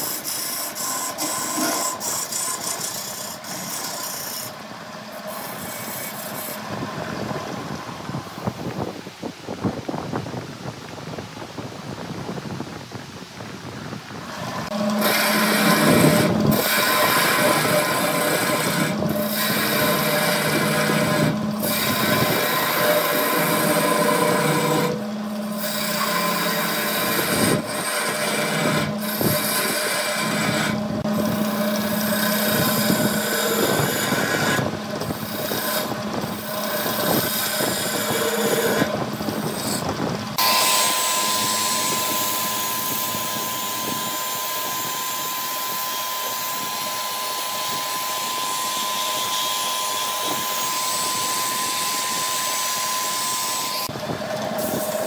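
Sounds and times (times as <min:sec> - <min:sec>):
power tool motor hum: 0:00.0 - 0:08.3, 0:14.3 - 0:55.0
wood cutting or sanding: 0:00.0 - 0:08.5, 0:14.3 - 0:55.0
power tool high whine: 0:00.0 - 0:08.9, 0:14.3 - 0:55.0.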